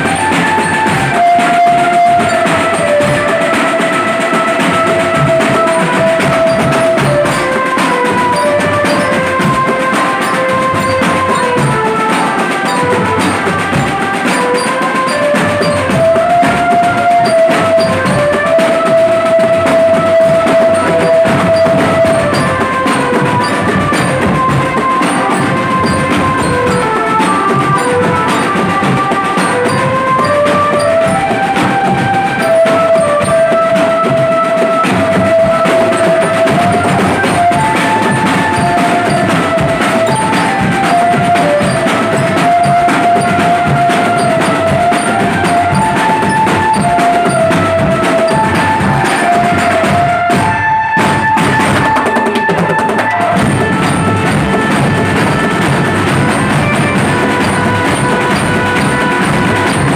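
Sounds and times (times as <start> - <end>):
marching drum band playing: 0.0 - 59.9.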